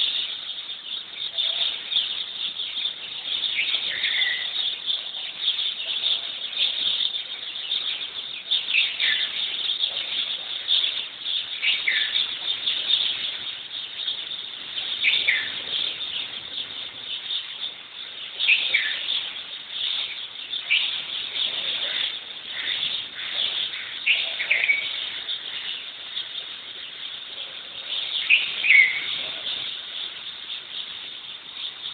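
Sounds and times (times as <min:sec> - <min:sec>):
birds chirping chorus: 0:00.0 - 0:31.9.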